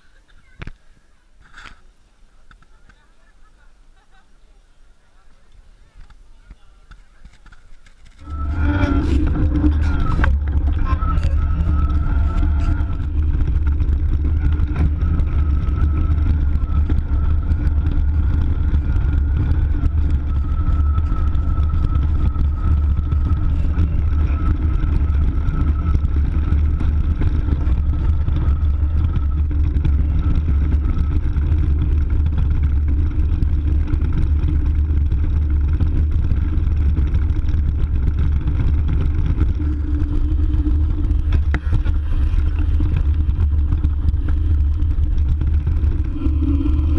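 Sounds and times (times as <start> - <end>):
bike riding rumble: 0.0 - 46.9
faint electric motor whine: 4.9 - 46.9.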